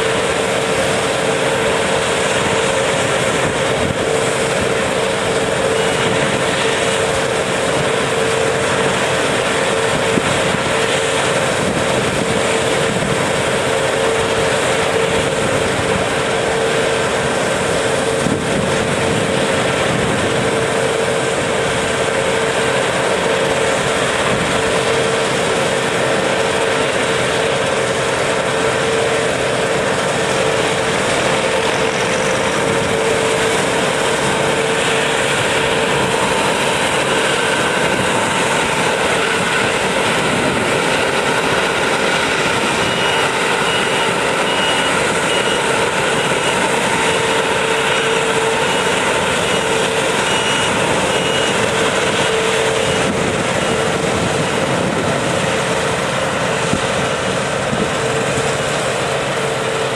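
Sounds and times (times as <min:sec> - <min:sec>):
combine harvester droning: 0:00.0 - 0:59.9.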